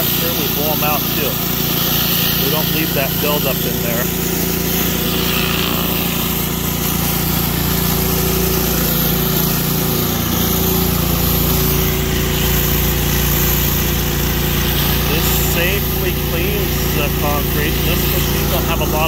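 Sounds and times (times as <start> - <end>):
pressure washer engine running: 0.0 - 19.0
water spraying hiss: 0.0 - 19.0.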